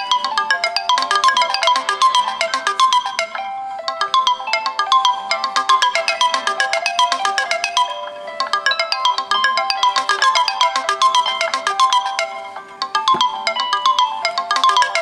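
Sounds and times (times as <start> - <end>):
phone alarm tones chiming: 0.0 - 15.0.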